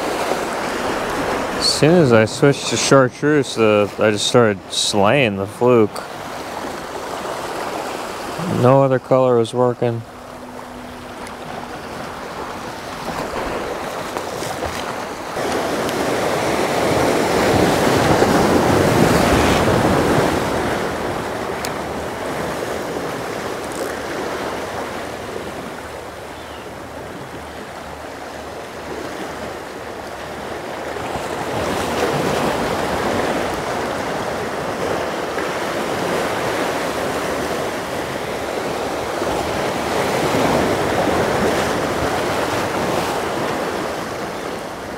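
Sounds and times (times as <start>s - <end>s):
surf washing against jetty: 0.0s - 44.9s
wind: 0.0s - 44.9s.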